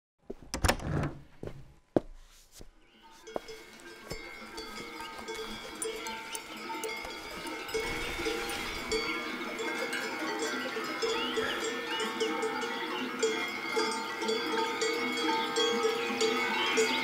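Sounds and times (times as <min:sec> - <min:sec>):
cowbells clanging: 0:03.0 - 0:17.0.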